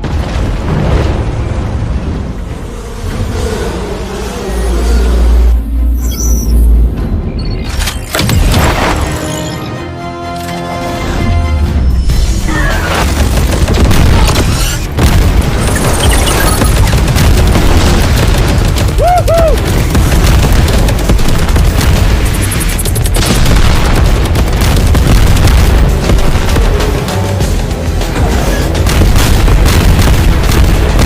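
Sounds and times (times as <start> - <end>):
gunfire and explosions: 0.0 - 31.0
driving action music: 5.5 - 31.0.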